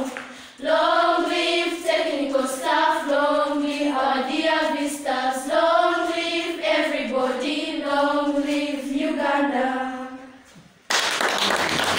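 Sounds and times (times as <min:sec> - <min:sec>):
children's choir singing: 0:00.0 - 0:10.5.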